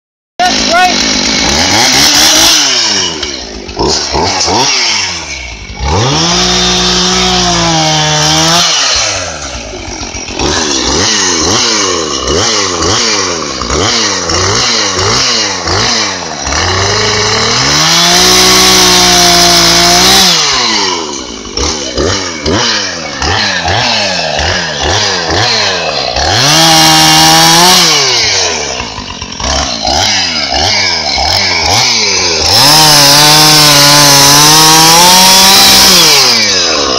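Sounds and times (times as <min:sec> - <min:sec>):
chainsaw engine revving: 0:00.4 - 0:36.9.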